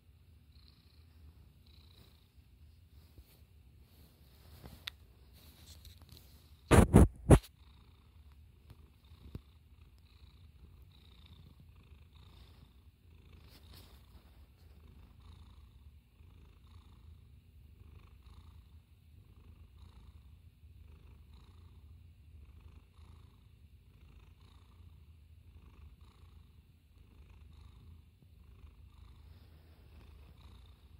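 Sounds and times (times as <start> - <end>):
cat purring: 0.3 - 30.9.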